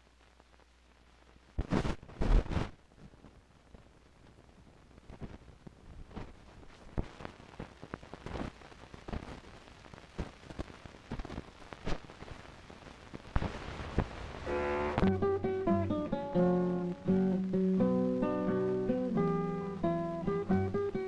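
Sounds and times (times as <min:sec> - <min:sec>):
faint hiss: 0:00.0 - 0:21.0
film soundtrack crackle and pops: 0:00.0 - 0:21.0.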